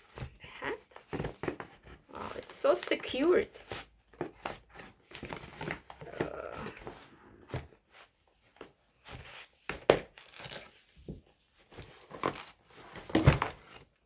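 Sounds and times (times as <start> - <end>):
cardboard and plastic crinkling: 0.0 - 14.0.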